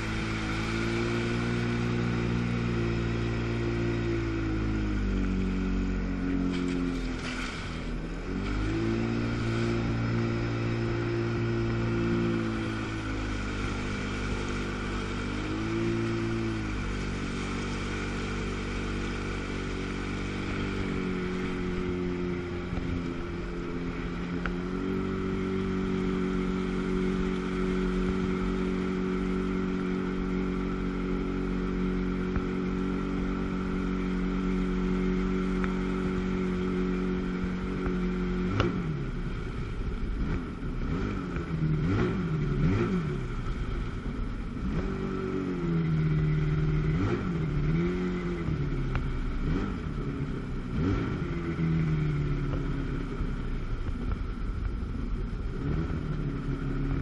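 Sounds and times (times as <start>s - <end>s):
jet ski engine running: 0.0s - 57.0s.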